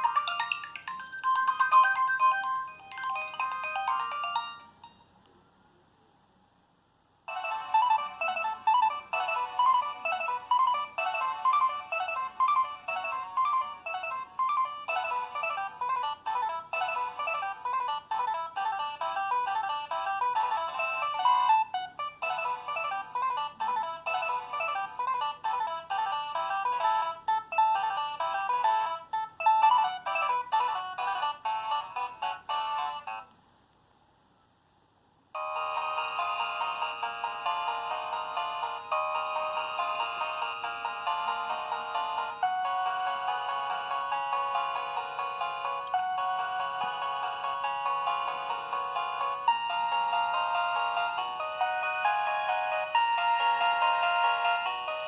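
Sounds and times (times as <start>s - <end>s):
mobile phone ringtone melody: 0.0s - 5.2s, 7.3s - 33.3s, 35.4s - 55.0s.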